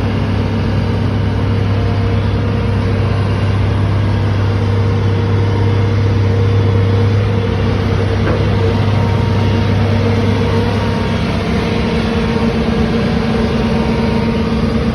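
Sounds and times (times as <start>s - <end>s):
construction machine engine running: 0.0s - 14.9s.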